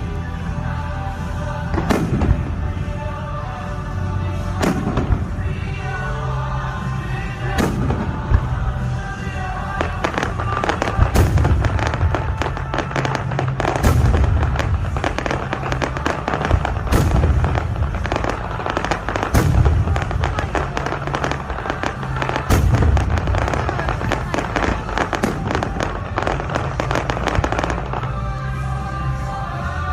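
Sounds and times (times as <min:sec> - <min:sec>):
dense firework crackling: 0:00.0 - 0:29.9.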